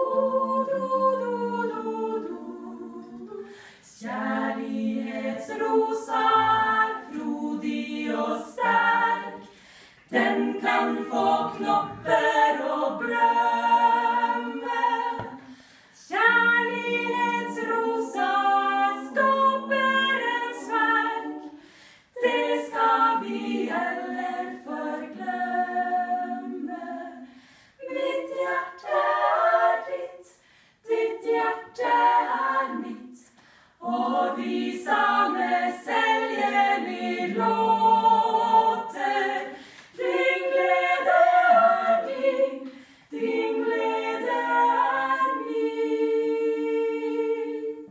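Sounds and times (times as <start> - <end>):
women's choir singing a cappella: 0.0 - 47.9.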